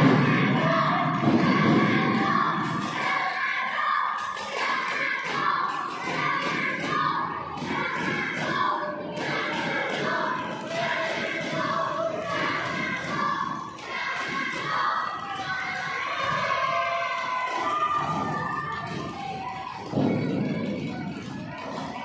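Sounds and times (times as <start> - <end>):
children shouting and cheering: 0.0 - 22.0.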